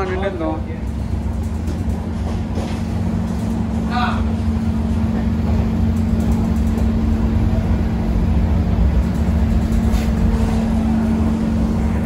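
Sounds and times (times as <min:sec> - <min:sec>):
constant hum: 0:00.0 - 0:12.0
train coach rumble: 0:00.0 - 0:12.0.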